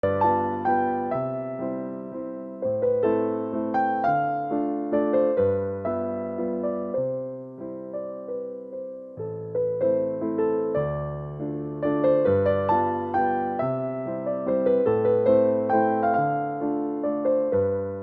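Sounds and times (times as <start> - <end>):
electric piano melody: 0.0 - 18.0.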